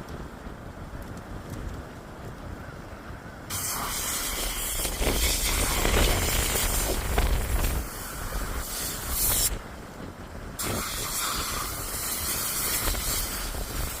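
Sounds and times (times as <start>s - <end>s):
strong wind rushing: 0.0s - 14.0s
wind buffeting microphone: 0.0s - 14.0s.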